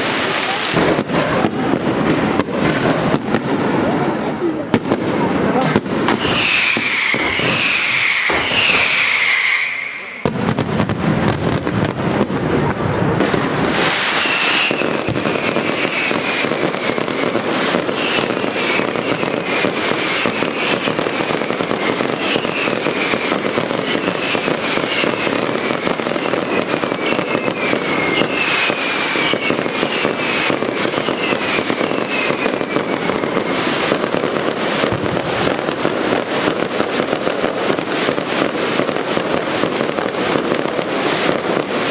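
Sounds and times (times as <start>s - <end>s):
fireworks bangs and crackling: 0.0s - 41.9s
fireworks falling whistles: 0.0s - 41.9s.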